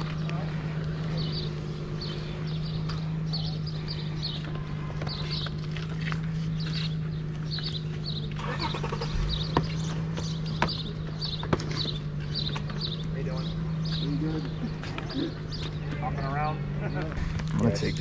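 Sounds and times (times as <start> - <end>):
bird chirping: 0.0 - 18.0
steady low hum: 0.0 - 18.0.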